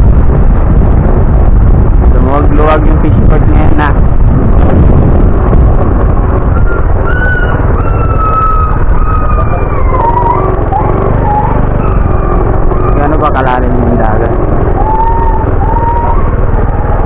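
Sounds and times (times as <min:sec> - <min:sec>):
vehicle engine and wind rumble: 0:00.0 - 0:17.0.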